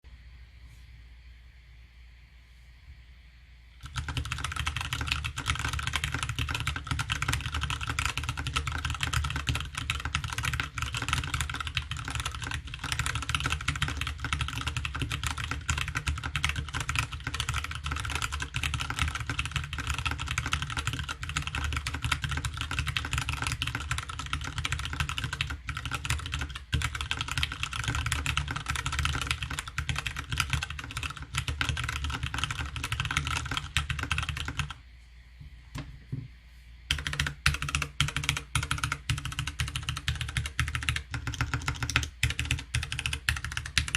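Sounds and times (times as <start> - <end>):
fast keyboard typing: 3.8 - 34.8, 36.9 - 43.9.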